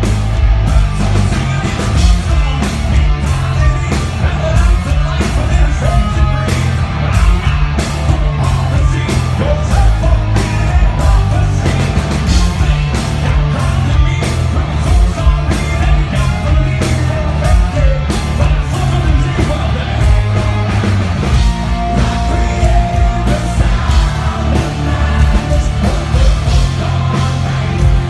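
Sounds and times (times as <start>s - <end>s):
bass guitar: 0.0s - 28.0s
electric guitars: 0.0s - 28.0s
steady drum beat: 0.0s - 28.0s
person singing: 0.7s - 28.0s.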